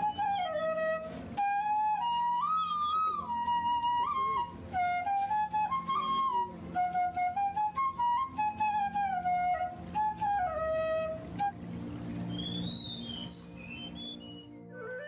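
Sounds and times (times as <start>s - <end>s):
flute-like melody: 0.0s - 15.0s
low steady accompaniment: 0.0s - 15.0s.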